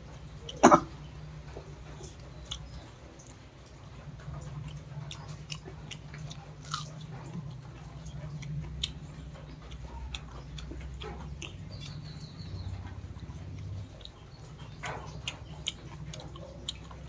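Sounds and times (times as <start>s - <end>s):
low steady hum: 0.0s - 17.0s
person chewing with mouth clicks: 1.9s - 17.0s.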